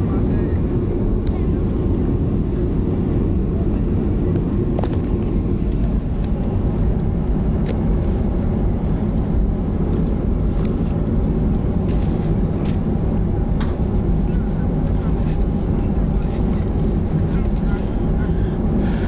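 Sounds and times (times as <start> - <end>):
jet engines and airflow rumble: 0.0 - 19.0.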